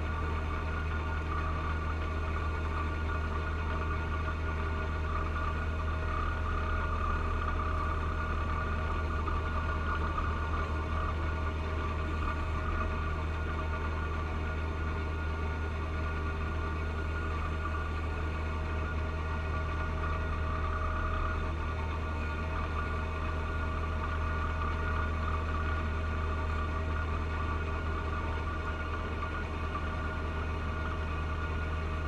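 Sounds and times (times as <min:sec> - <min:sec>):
tractor diesel engine drone: 0:00.0 - 0:32.0.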